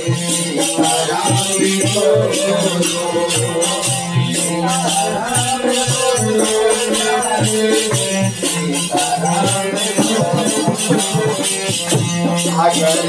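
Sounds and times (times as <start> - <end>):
rattling percussion: 0.0 - 13.0
sustained melody line: 0.0 - 13.0
hand drum beating: 0.8 - 13.0.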